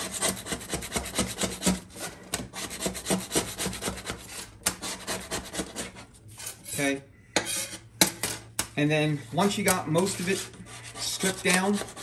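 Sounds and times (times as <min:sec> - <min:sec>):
razor blade scraping metal plate: 0:00.0 - 0:08.2, 0:09.4 - 0:12.0.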